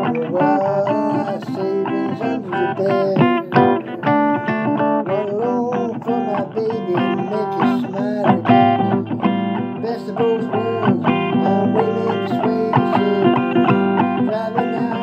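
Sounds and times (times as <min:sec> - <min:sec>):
blues guitar solo with bent notes: 0:00.0 - 0:15.0.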